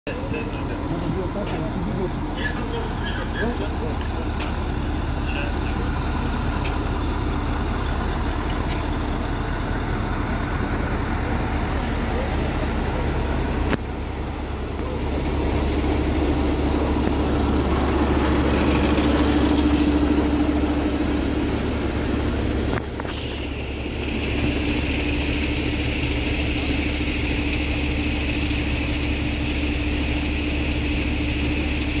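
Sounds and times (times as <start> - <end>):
fire truck engine running: 0.1 - 32.0.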